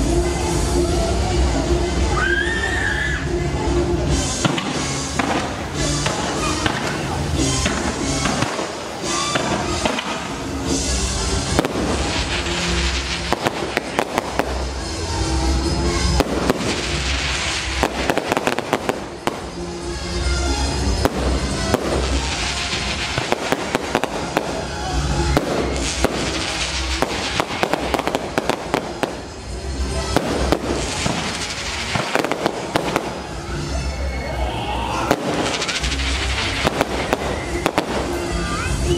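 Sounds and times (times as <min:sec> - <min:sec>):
fireworks crackling and banging: 0:03.2 - 0:38.9.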